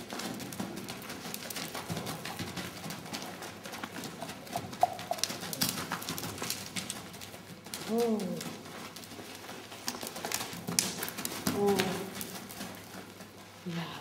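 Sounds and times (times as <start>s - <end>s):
pony hoofbeats on soft footing: 0.0s - 14.0s.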